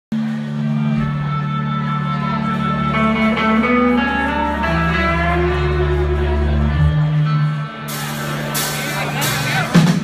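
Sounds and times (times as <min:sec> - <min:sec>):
bass notes: 0:00.1 - 0:10.0
electric guitar with sliding notes: 0:00.2 - 0:10.0.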